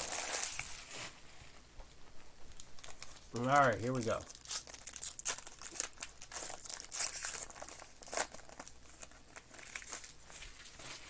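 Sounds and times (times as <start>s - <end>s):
plastic wrapping crinkling and tearing: 0.0s - 1.5s, 2.4s - 11.0s.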